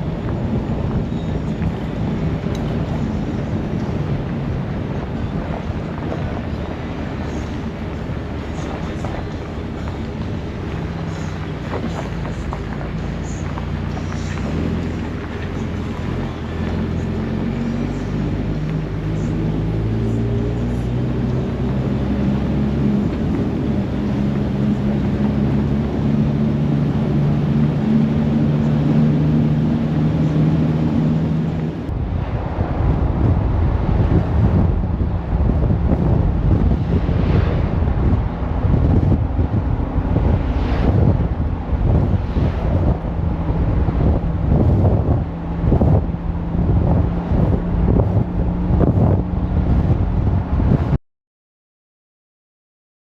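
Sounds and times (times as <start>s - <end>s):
car engine running: 0.0s - 51.0s
wind buffeting microphone: 0.0s - 51.0s.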